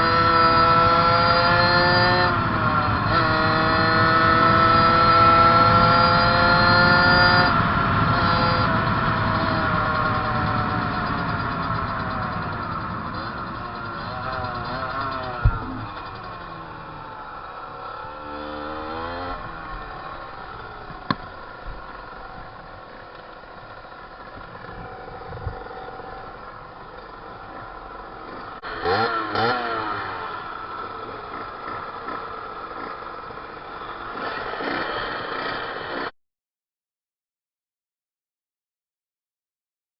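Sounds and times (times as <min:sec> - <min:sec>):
motorcycle engine revving: 0:00.0 - 0:36.1.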